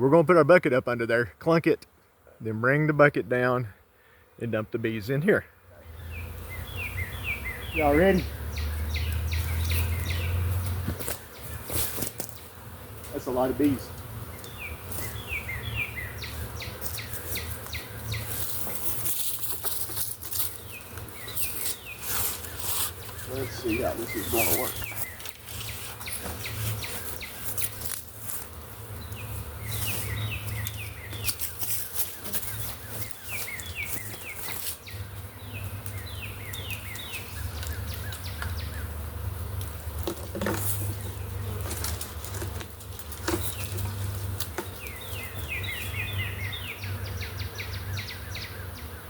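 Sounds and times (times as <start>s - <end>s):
bee swarm humming: 1.8s - 49.0s
songbird singing: 4.5s - 49.0s.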